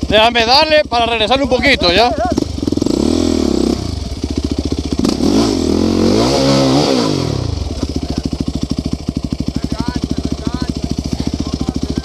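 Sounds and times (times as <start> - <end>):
atv engine revving and idling: 0.0 - 12.0.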